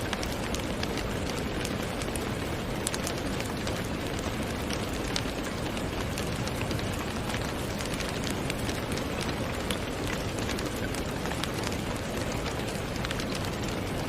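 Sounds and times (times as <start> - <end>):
steady rain hiss: 0.0 - 14.0
raindrop taps: 0.1 - 14.0.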